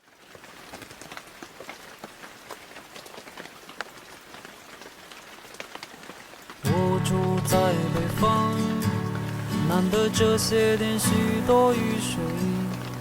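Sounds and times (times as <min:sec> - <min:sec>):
raindrops tapping on a surface: 0:00.0 - 0:13.0
steady rain patter: 0:00.0 - 0:13.0.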